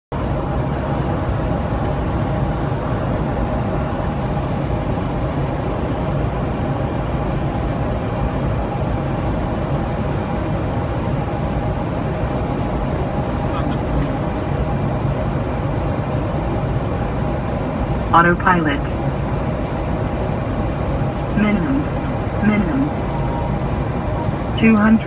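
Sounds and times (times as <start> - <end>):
jet cockpit airflow and engine: 0.1 - 25.0.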